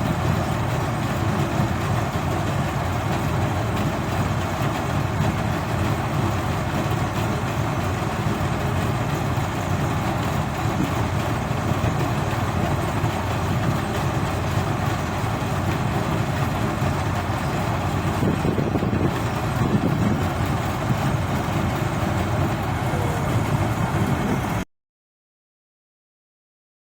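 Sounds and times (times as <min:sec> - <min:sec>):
machine engine running: 0:00.0 - 0:24.6.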